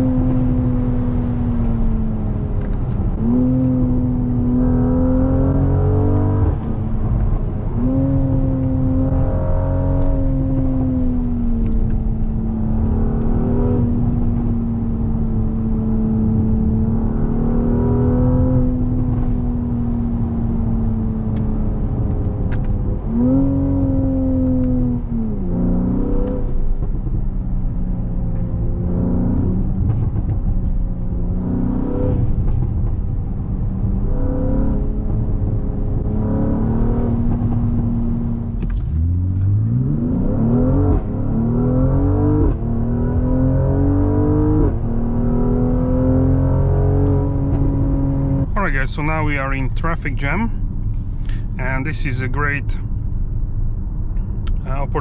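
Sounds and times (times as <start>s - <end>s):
car engine running: 0.0s - 55.0s
road noise: 0.0s - 55.0s.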